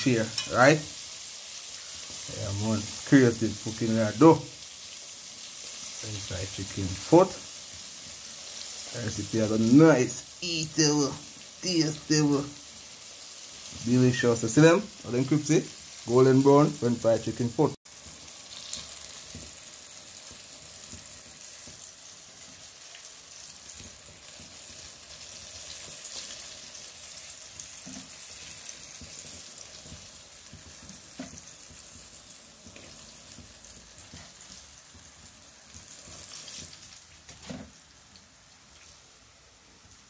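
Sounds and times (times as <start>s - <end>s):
deep-frying sizzle and crackle: 0.0s - 40.0s.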